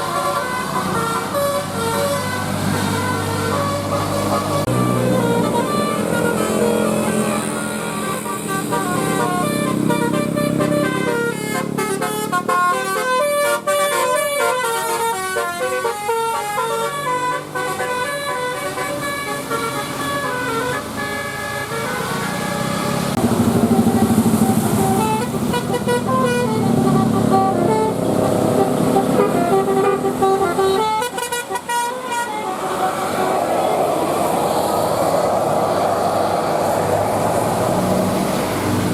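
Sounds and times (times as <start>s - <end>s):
musical air horn playing a tune: 0.0s - 33.8s.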